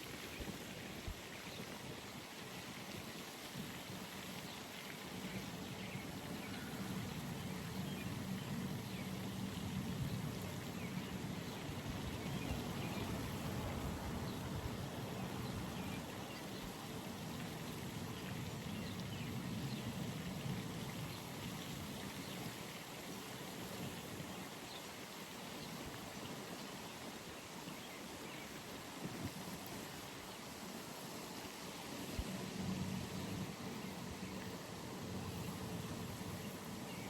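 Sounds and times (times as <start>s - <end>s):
low rumbling hiss: 0.0s - 37.0s.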